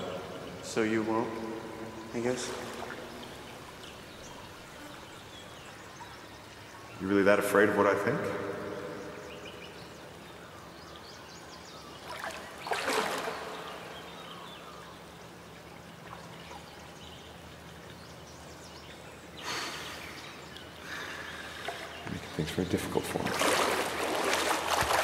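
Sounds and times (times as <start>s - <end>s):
water trickling: 0.0s - 7.4s, 8.7s - 19.4s, 20.0s - 25.0s.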